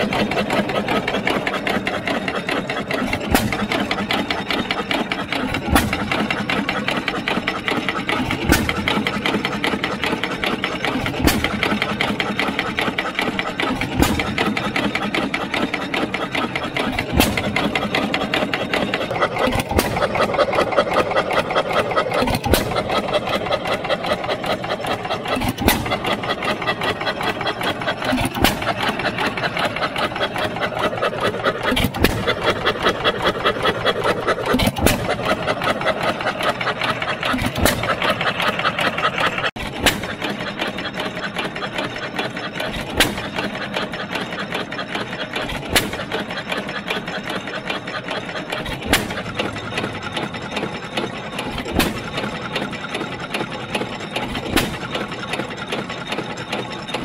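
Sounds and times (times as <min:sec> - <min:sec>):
engine mechanism clattering: 0:00.0 - 0:57.0.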